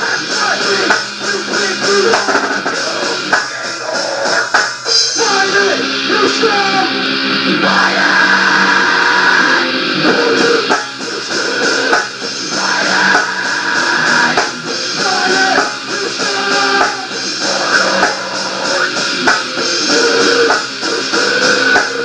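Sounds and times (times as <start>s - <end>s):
drum kit playing: 0.0s - 22.0s
electric guitar: 0.0s - 22.0s.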